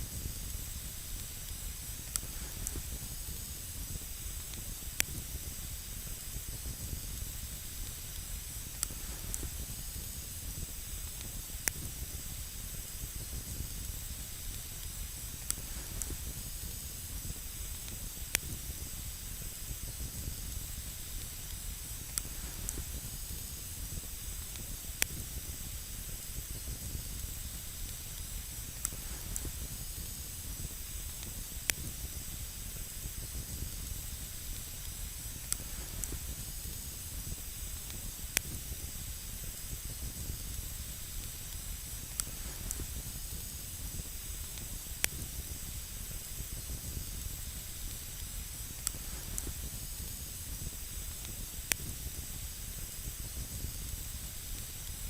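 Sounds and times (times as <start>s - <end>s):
campfire hissing: 0.0s - 55.0s
campfire crackling pops: 0.1s - 55.0s.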